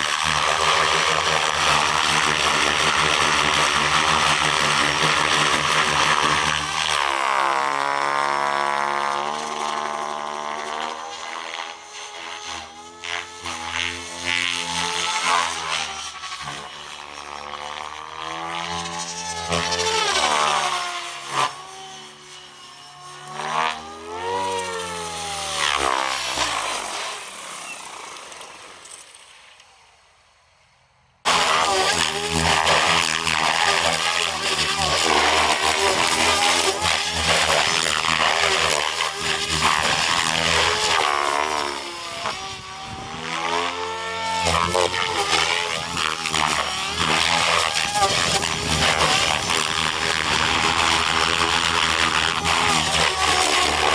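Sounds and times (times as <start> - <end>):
rc helicopter rotor and motor: 0.0 - 53.9.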